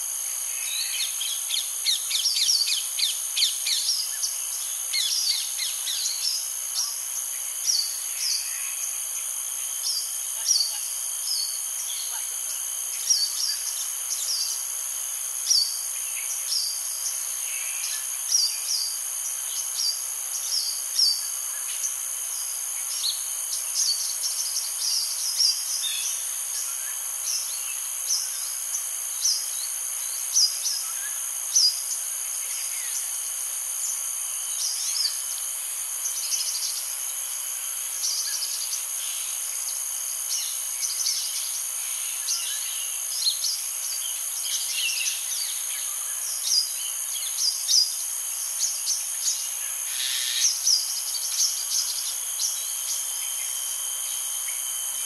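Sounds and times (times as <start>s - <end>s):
insects ringing high-pitched: 0.0s - 55.0s.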